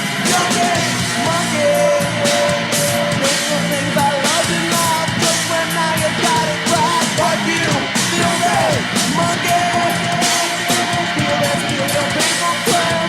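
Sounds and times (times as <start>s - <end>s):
electric guitar lead bending: 0.0s - 13.0s
punk rock band playing: 0.0s - 13.0s.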